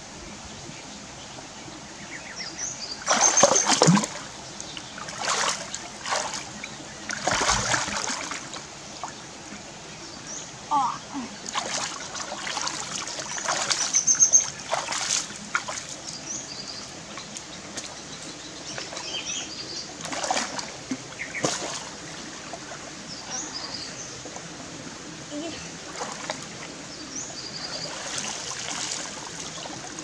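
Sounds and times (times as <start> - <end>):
birds chirping: 0.5 - 30.0
stream trickling: 0.6 - 30.0
water splashing and sloshing: 2.9 - 9.6, 10.6 - 30.0.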